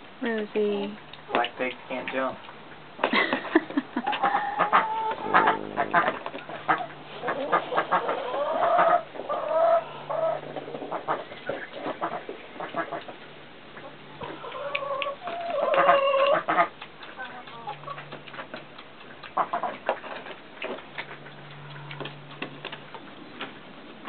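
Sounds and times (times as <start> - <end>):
chickens clucking: 1.1 - 24.0.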